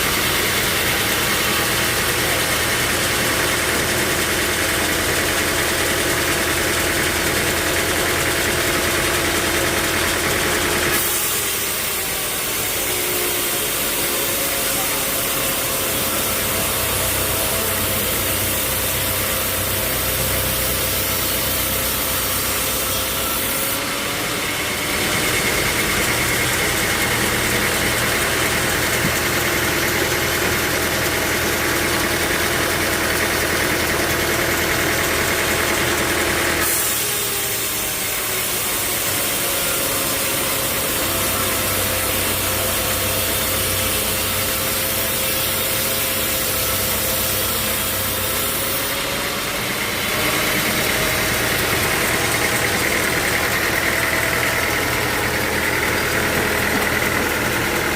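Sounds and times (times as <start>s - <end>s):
machinery high whine: 0.0s - 57.9s
sawmill machinery drone: 0.0s - 57.9s.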